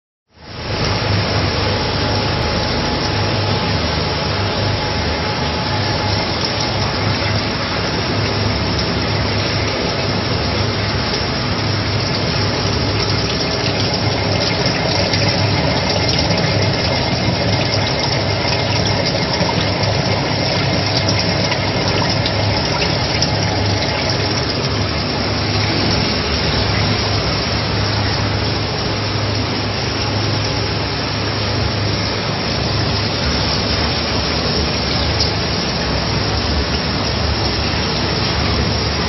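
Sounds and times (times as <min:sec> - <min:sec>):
machine humming and hissing: 0:00.4 - 0:39.0.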